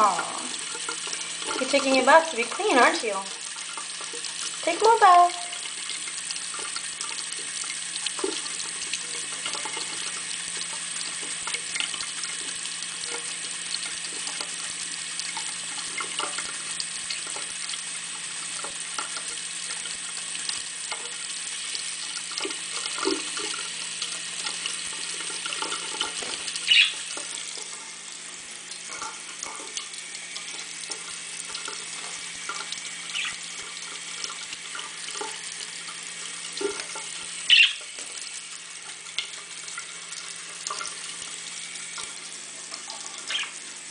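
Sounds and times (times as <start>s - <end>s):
tap running into sink: 0.0s - 28.0s, 28.7s - 43.6s.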